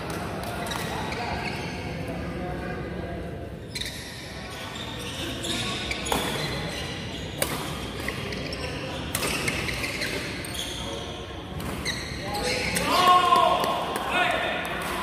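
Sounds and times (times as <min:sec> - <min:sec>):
echoing chatter: 0:00.0 - 0:15.0.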